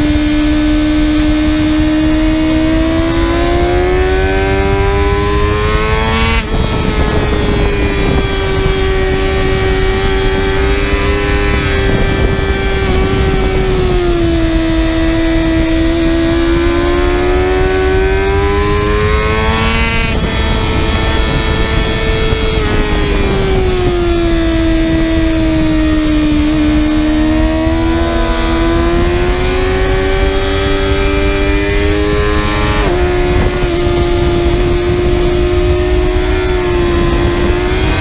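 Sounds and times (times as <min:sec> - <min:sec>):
motorcycle engine accelerating: 0:00.0 - 0:38.0
wind rush: 0:00.0 - 0:38.0.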